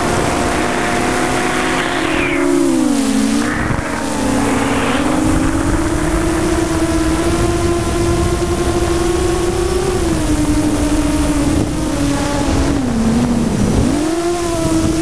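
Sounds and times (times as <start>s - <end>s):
drone motors whining: 0.0s - 15.0s
wind noise: 0.0s - 15.0s.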